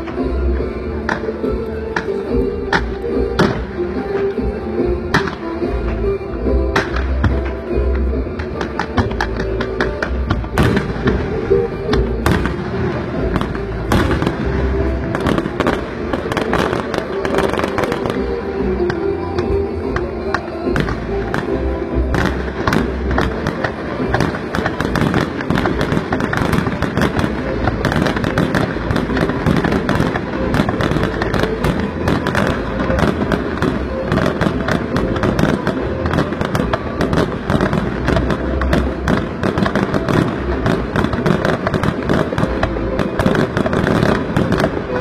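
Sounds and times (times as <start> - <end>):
fireworks crackling and banging: 0.0 - 45.0.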